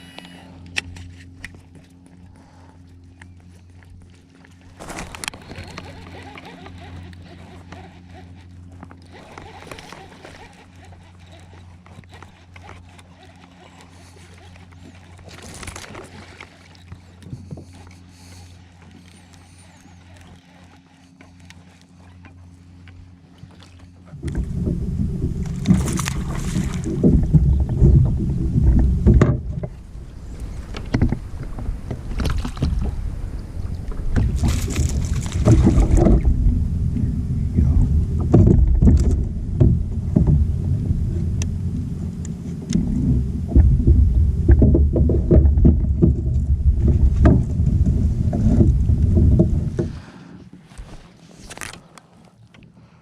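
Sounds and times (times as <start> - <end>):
low rumbling water and wind noise: 0.0 - 51.8
faint steady hum: 0.0 - 53.0.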